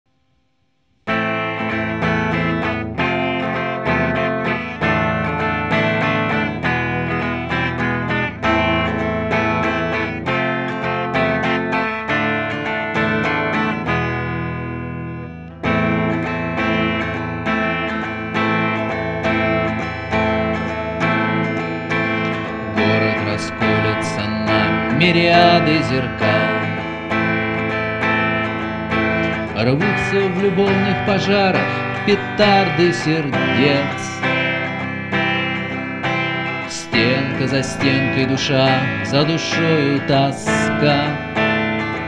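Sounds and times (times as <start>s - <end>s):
electric guitar picking chords: 1.0s - 42.0s.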